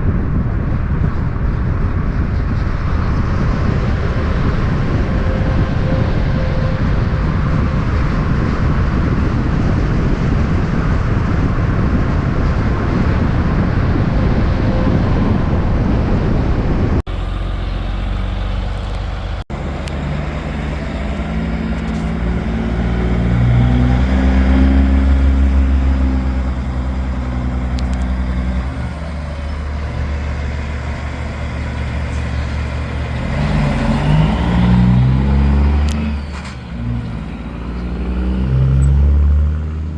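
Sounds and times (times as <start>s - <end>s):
road noise: 0.0s - 39.9s
truck engine pulling hard: 0.0s - 39.9s.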